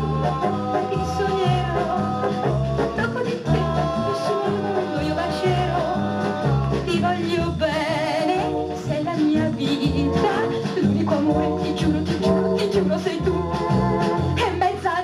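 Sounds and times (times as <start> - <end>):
song with singer and band: 0.0 - 15.0.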